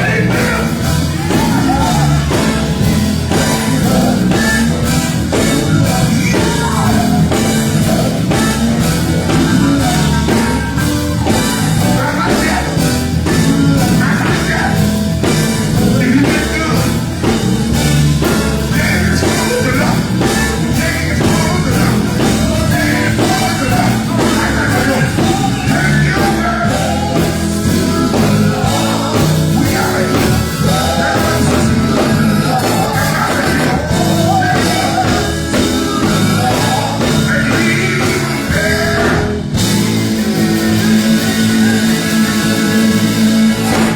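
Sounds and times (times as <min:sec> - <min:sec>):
drum kit beat: 0:00.0 - 0:43.9
electric guitar: 0:00.0 - 0:43.9
voices singing: 0:00.0 - 0:43.9.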